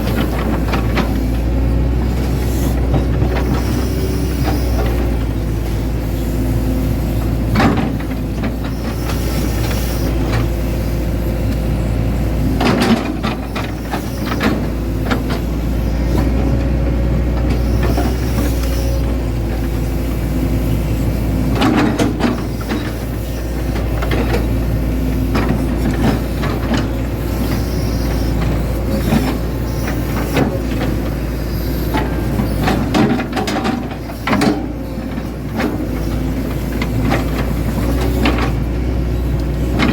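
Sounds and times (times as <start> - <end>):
excavator diesel engine running: 0.0 - 39.9
excavator knocks and clanks: 0.0 - 39.9.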